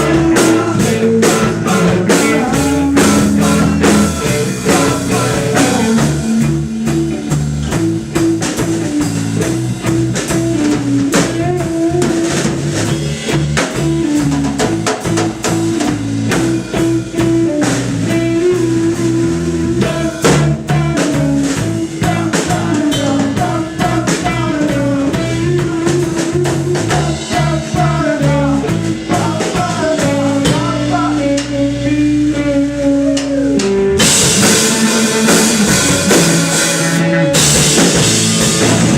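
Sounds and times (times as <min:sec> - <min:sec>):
bass line: 0:00.0 - 0:38.9
drum kit beat: 0:00.0 - 0:38.9
electric guitar: 0:00.0 - 0:38.9
rock band playing: 0:00.0 - 0:38.9.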